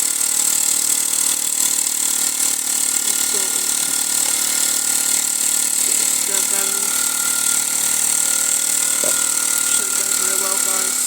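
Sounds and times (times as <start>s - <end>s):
toy steam engine hissing: 0.0s - 11.0s.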